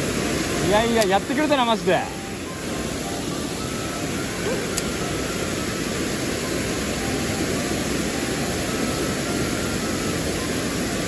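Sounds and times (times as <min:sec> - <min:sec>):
mountain stream rushing: 0:00.0 - 0:11.0.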